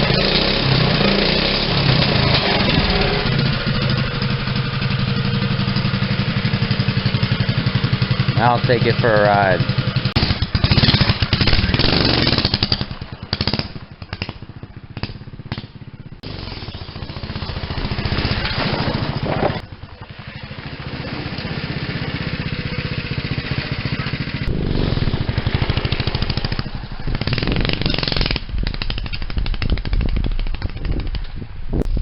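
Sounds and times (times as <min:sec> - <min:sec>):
small motorbike engine running: 0:00.0 - 0:30.8.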